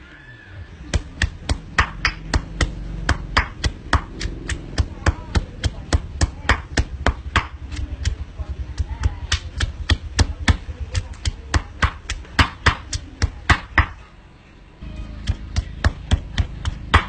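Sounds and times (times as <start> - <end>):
pestle pounding in stone mortar: 0.9 - 14.0, 15.2 - 17.0.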